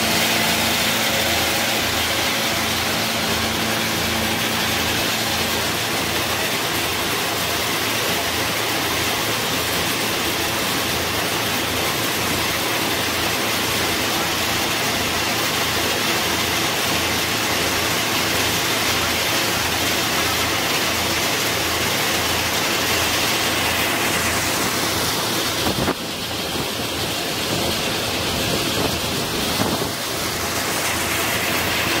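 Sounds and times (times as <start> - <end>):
shelling machine running: 0.0 - 32.0.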